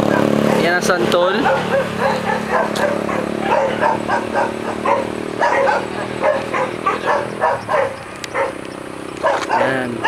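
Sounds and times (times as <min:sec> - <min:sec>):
dog barking: 0:00.0 - 0:08.6, 0:09.2 - 0:10.0.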